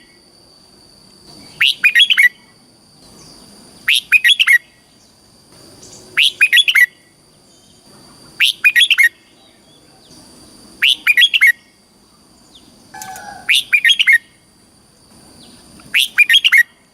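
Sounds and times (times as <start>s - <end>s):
faint high whine: 0.0s - 16.9s
bulbul singing: 1.3s - 16.9s.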